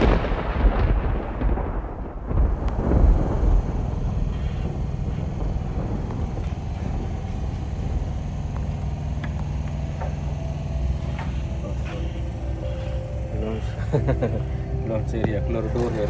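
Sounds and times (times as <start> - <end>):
motor humming and rumbling: 0.0 - 16.0.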